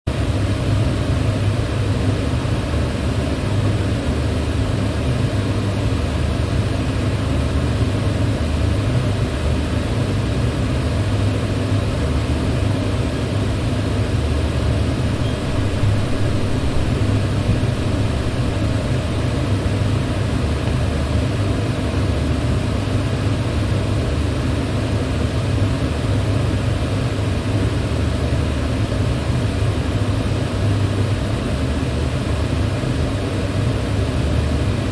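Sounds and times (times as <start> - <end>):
electric fan running: 0.1 - 34.9.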